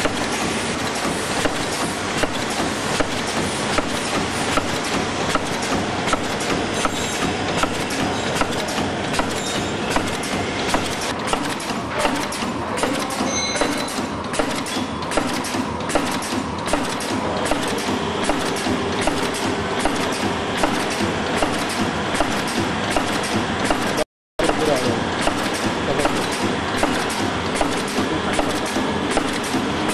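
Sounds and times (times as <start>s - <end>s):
packing machine clattering: 0.0s - 29.9s.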